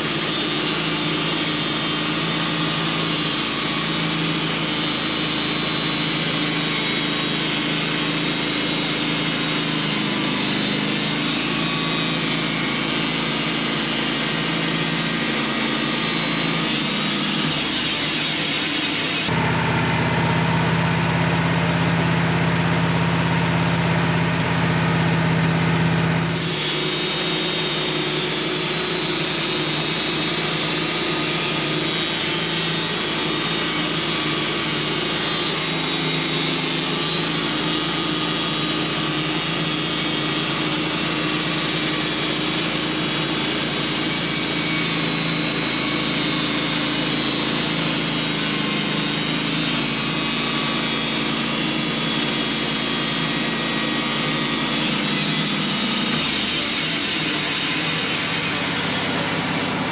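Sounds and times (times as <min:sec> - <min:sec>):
band saw cutting log: 0:00.0 - 0:22.8, 0:23.5 - 0:59.9.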